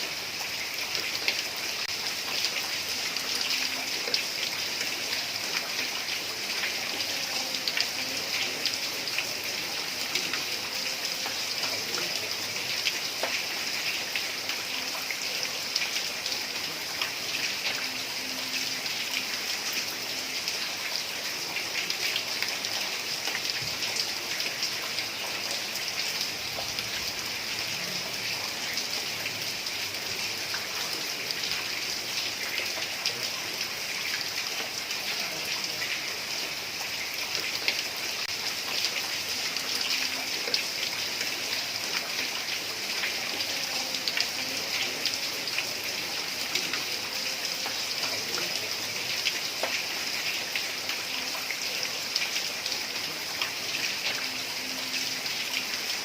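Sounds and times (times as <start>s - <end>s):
heavy rain on a tiled roof: 0.0s - 56.0s.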